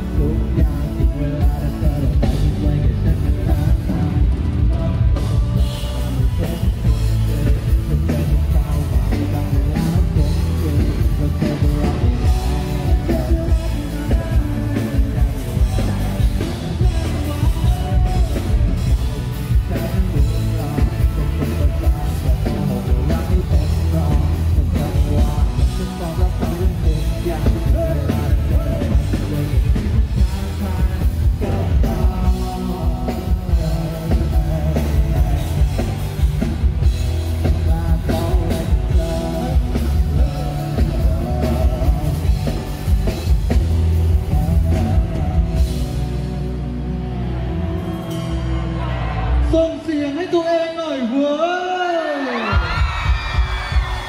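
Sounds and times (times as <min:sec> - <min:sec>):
drum kit: 0:00.0 - 0:46.6, 0:52.4 - 0:54.0
electric guitar: 0:00.0 - 0:50.2, 0:52.1 - 0:54.0
bass: 0:00.0 - 0:54.0
person singing lead vocal: 0:00.0 - 0:54.0.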